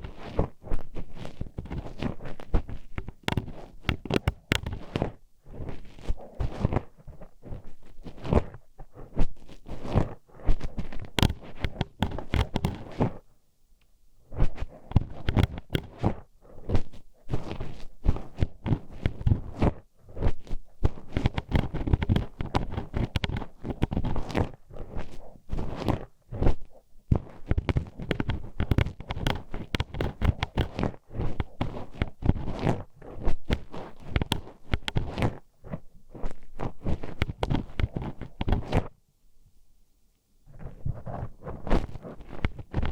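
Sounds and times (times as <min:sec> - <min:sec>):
hairpin scraping microphone: 0:00.0 - 0:13.3, 0:14.3 - 0:39.0, 0:40.5 - 0:42.9.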